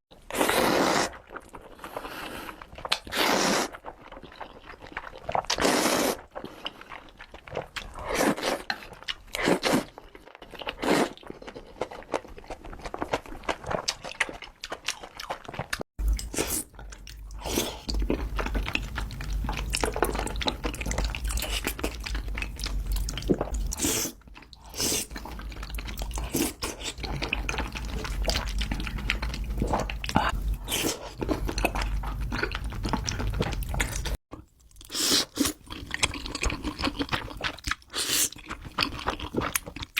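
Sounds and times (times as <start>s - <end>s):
person chewing noodles: 0.2s - 39.9s.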